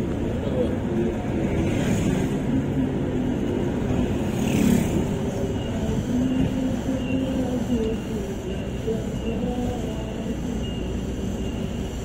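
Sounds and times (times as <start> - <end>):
road vehicle rumble: 0.0 - 12.0.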